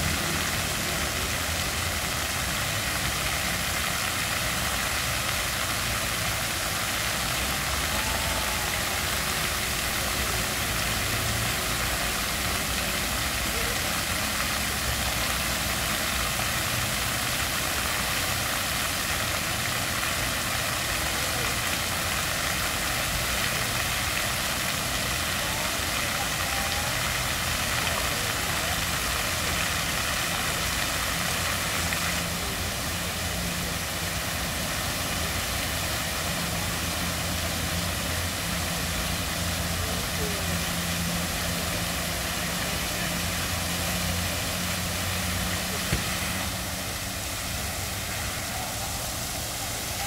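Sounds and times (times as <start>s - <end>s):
fountain jets splashing: 0.0s - 50.0s.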